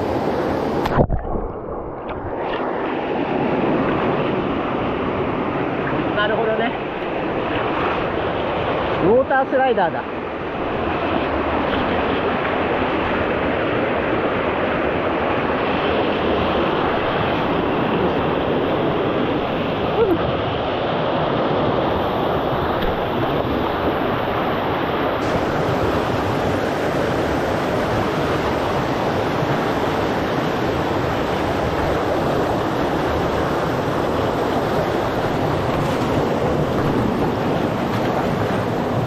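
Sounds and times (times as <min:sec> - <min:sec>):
stream rushing over rock: 0:00.0 - 0:39.0.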